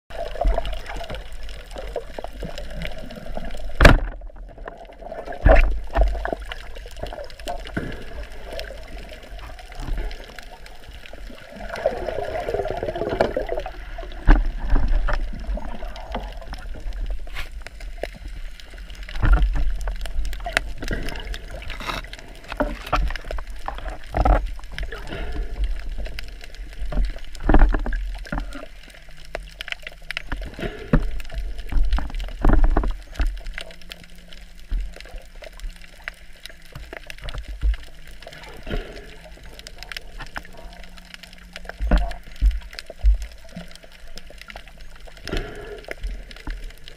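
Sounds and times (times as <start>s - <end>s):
seawater sloshing and gurgling: 0.1s - 46.9s.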